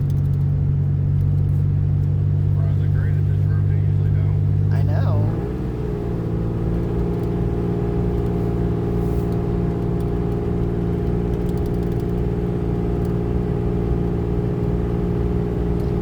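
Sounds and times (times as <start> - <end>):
truck engine drone from cab: 0.0 - 16.0.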